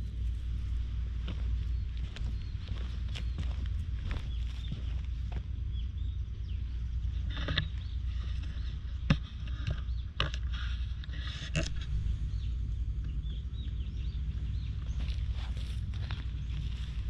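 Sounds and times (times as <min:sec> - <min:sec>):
faint bird chirps: 0:00.0 - 0:17.0
wind rumbling on microphone: 0:00.0 - 0:17.0.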